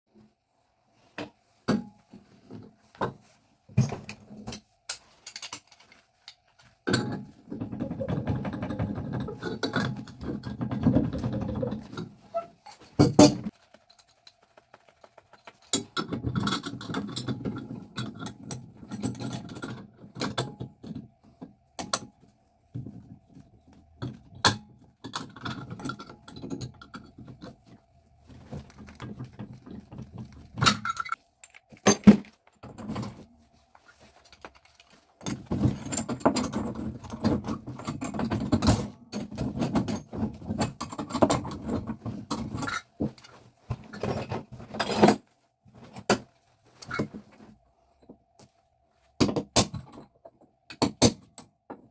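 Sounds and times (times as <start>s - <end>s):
metal parts scraping and rattling: 1.8s - 21.3s, 24.0s - 47.5s.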